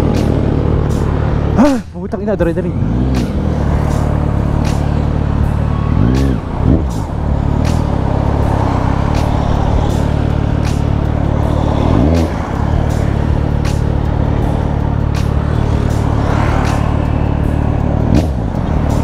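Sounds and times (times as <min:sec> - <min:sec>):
motorcycle engine running: 0:00.0 - 0:01.8, 0:02.5 - 0:19.0.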